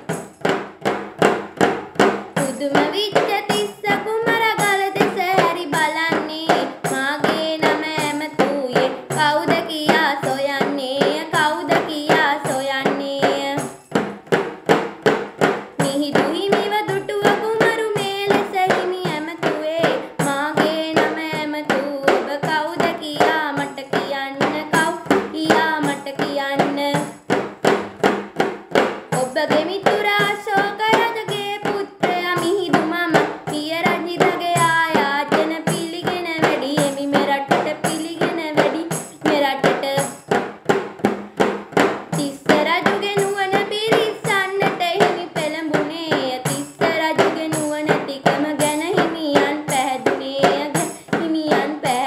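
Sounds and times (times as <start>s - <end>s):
girl singing: 2.3s - 13.9s, 15.7s - 27.4s, 28.9s - 40.4s, 42.0s - 52.0s.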